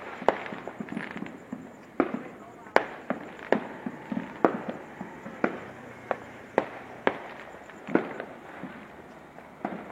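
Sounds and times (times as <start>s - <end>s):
firecrackers banging: 0.0s - 9.9s.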